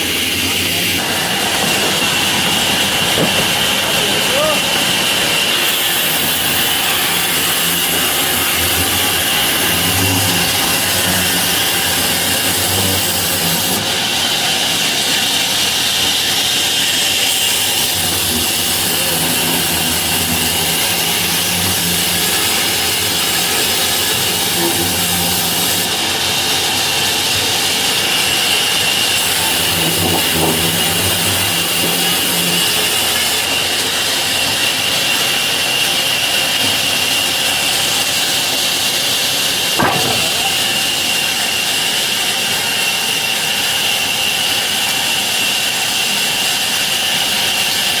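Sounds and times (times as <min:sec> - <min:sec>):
sawmill saw cutting wood: 0:00.0 - 0:48.0.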